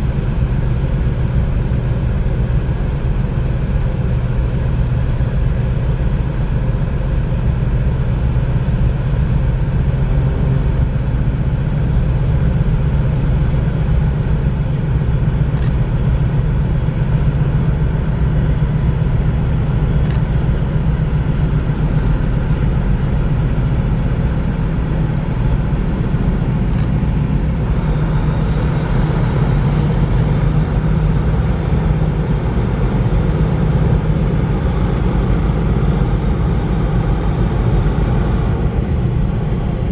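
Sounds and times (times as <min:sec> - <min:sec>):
ship engine drone: 0:00.0 - 0:39.9.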